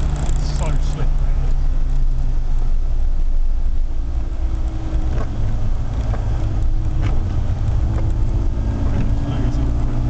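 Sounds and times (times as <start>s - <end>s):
car engine pulling: 0.0s - 10.0s
tyre and road noise on wet track: 0.0s - 10.0s.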